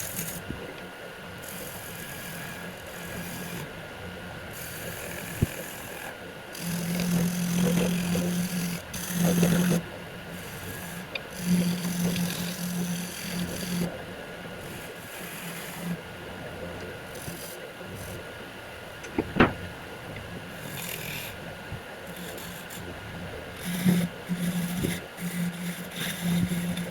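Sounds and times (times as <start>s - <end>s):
turning tool scraping wood: 0.0s - 0.6s, 1.4s - 3.8s, 4.5s - 16.0s, 16.7s - 18.3s, 20.5s - 26.9s
wood lathe humming: 0.0s - 26.9s.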